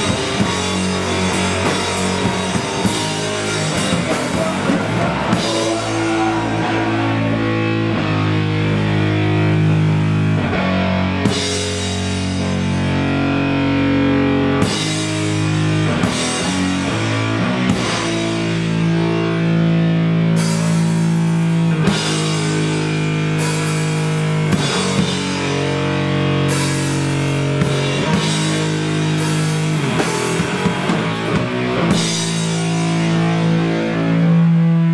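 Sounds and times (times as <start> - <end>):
distorted electric guitar chords: 0.0 - 34.9
drum kit: 0.0 - 34.9.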